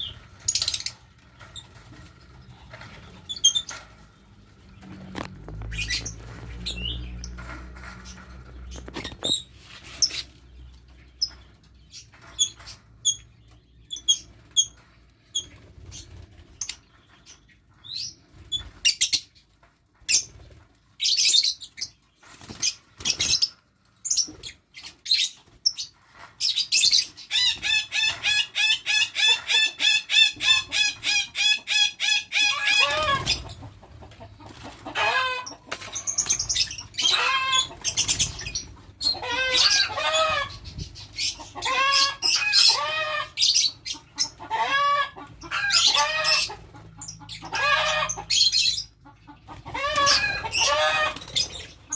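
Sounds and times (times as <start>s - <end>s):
lovebirds chirping: 0.0s - 51.9s.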